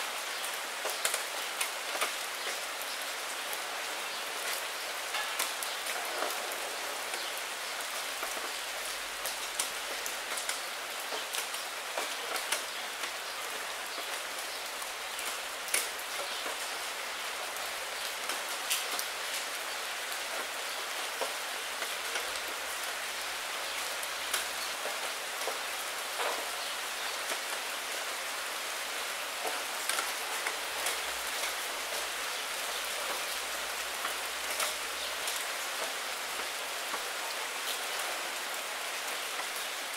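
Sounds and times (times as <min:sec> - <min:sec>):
rain hitting a window: 0:00.1 - 0:39.9.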